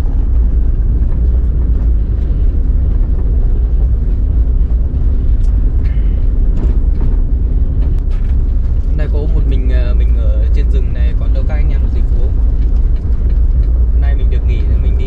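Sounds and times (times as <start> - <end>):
car rumbling on the move: 0.0 - 15.0.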